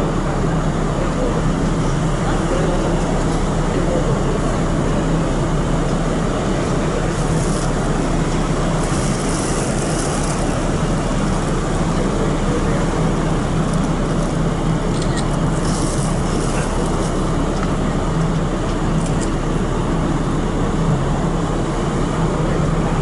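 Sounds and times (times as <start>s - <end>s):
ship engine hum: 0.0s - 23.0s.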